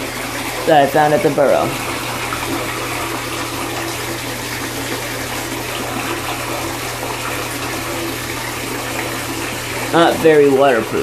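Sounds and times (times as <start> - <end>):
water running into bathtub: 0.0 - 11.0.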